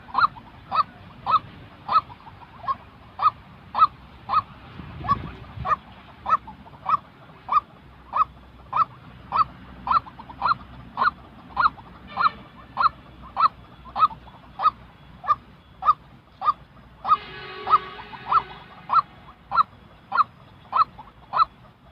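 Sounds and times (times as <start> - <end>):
bird repeated call: 0.0 - 21.9.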